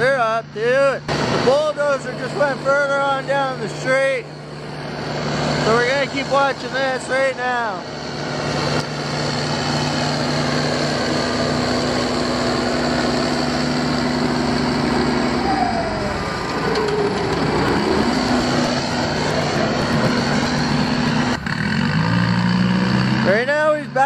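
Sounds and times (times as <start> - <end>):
diesel roller engine drone: 0.0 - 24.0.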